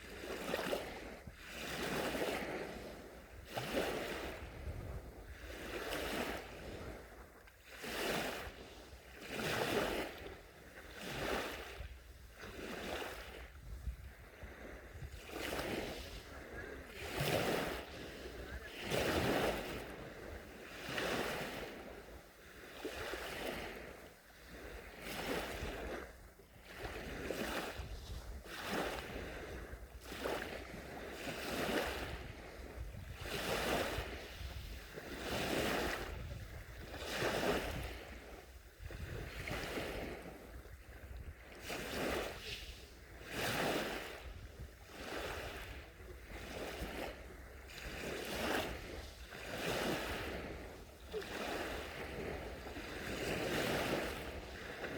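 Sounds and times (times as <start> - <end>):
small waves washing onto beach: 0.0 - 54.9.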